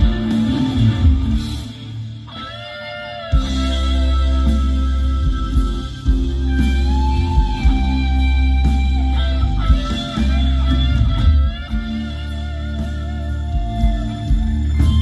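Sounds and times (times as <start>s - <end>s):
electric guitar lead with bent notes: 0.0s - 15.0s
rock band playing: 0.0s - 15.0s.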